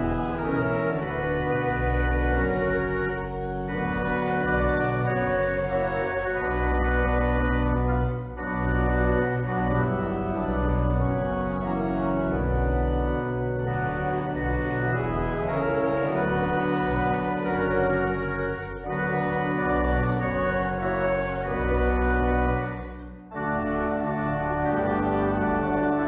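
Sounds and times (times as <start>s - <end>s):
church organ chords: 0.0s - 26.0s.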